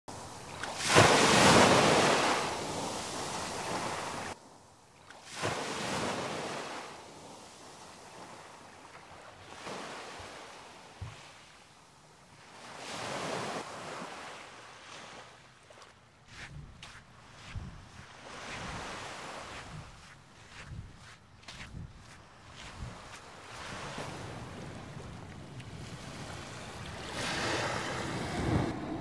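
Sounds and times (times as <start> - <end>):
small waves breaking on sand: 0.1 - 29.0.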